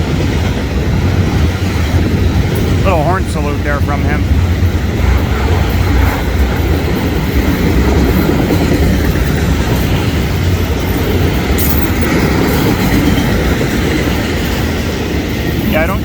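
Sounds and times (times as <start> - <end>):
freight train rumble: 0.0 - 16.0
steel wheels clattering on rails: 0.0 - 16.0.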